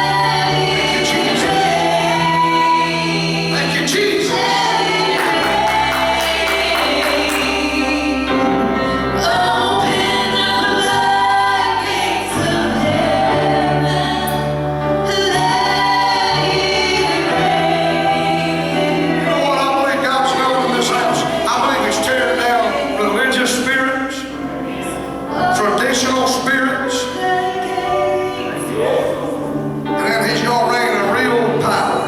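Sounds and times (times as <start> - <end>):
gospel choir singing: 0.0 - 32.0
instrumental accompaniment with bass: 0.0 - 32.0.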